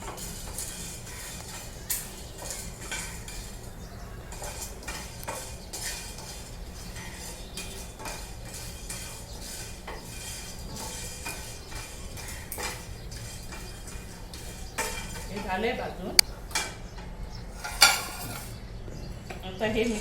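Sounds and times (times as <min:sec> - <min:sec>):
spoon scraping spices in pan: 0:00.0 - 0:18.6.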